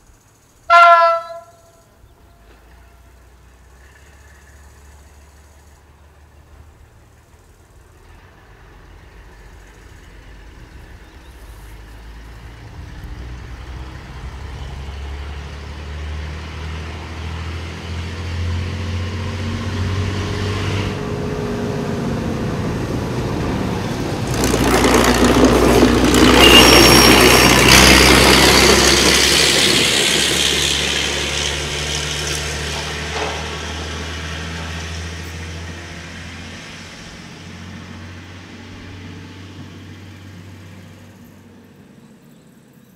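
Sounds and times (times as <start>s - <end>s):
diesel railbus passing: 0.0s - 42.9s.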